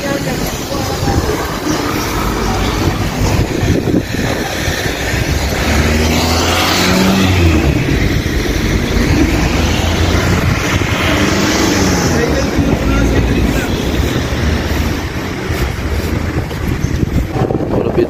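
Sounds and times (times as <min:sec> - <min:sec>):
vehicles passing on a street: 0:00.0 - 0:18.0
engine running close by: 0:00.3 - 0:18.0.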